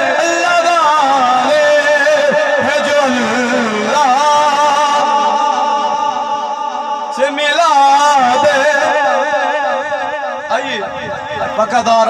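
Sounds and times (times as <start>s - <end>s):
man chanting through a microphone: 0.0s - 12.0s.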